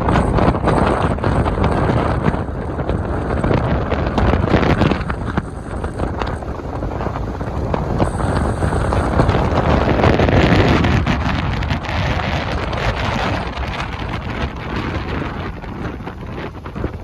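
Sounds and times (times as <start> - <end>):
low rumble of motorcycle: 0.0 - 17.0
wind buffeting microphone: 0.0 - 17.0.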